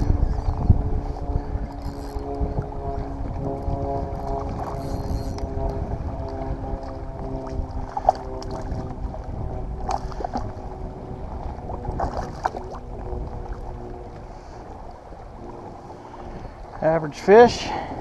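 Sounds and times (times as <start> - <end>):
faint multi-tone hum: 0.0 - 18.0
wind and water rumble: 0.0 - 18.0.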